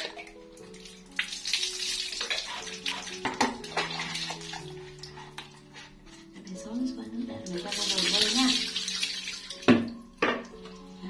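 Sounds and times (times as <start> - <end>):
soft music of held notes: 0.0 - 11.0
water running and splashing: 0.0 - 11.0.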